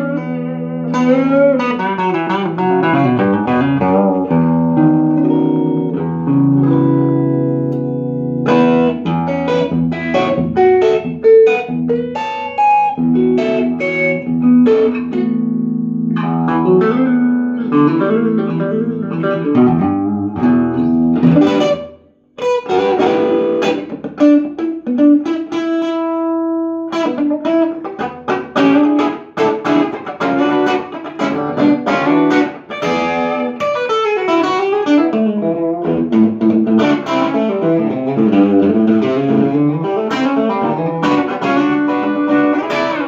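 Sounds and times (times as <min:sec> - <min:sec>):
electric guitar playing: 0:00.0 - 0:43.0.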